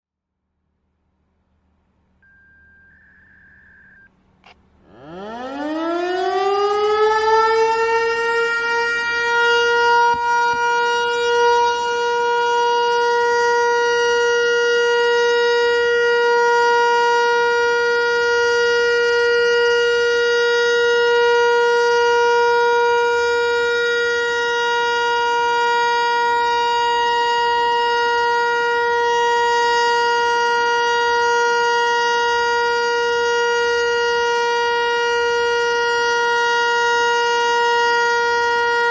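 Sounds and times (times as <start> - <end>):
warning siren steady tone: 2.1 - 38.9.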